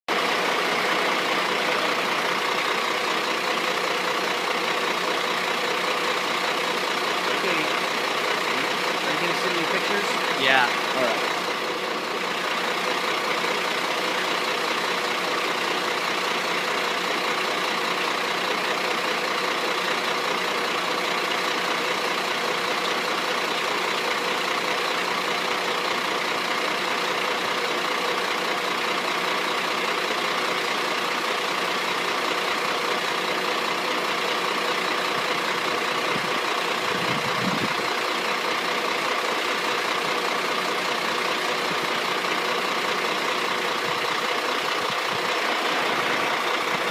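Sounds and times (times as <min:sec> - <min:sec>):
truck engine humming: 0:00.1 - 0:46.9.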